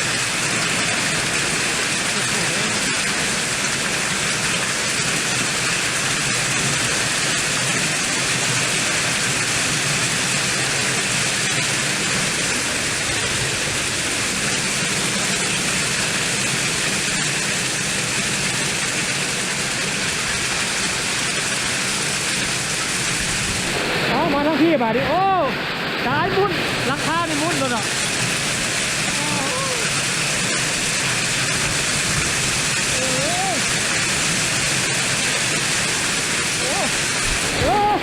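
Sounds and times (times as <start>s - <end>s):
storm wind: 0.0s - 17.2s, 19.6s - 38.0s
heavy rain: 0.0s - 38.0s.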